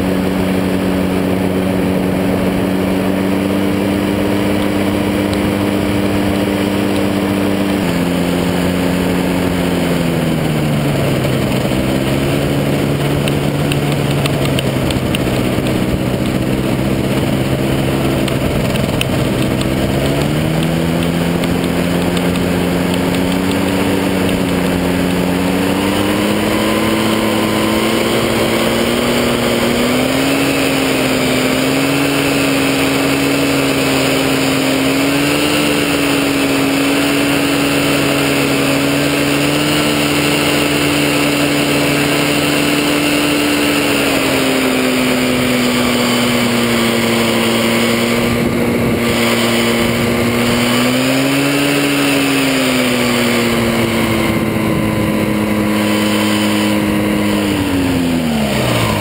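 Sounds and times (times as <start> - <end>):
engine and propeller running: 0.0 - 59.0
wind noise: 0.0 - 59.0.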